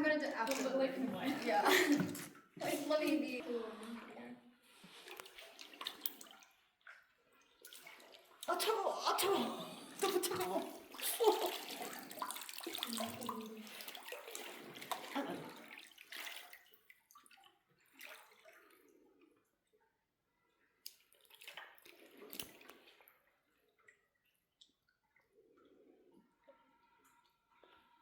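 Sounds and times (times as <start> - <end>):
water dripping: 0.0 - 4.2, 4.8 - 19.8, 20.8 - 27.8
water splashing and sloshing: 0.0 - 28.0.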